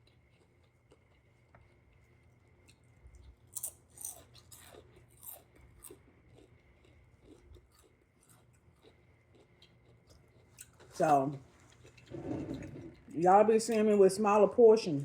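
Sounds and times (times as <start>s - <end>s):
person chewing crunchy food: 0.0s - 13.2s.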